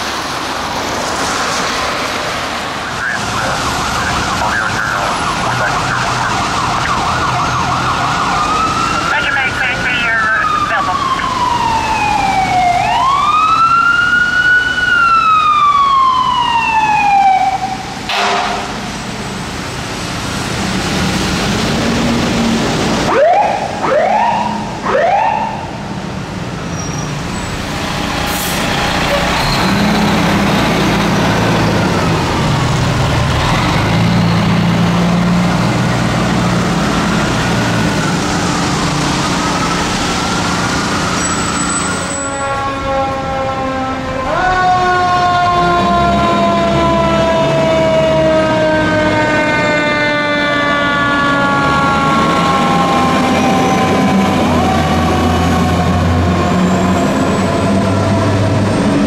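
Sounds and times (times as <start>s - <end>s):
fire engine siren wailing: 0.0s - 59.0s
fire truck engine running: 0.0s - 59.0s.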